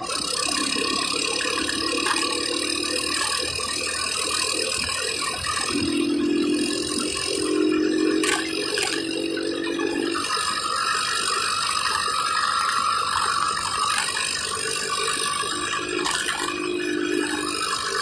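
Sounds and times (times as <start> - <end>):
tyre and engine noise: 0.0 - 18.0.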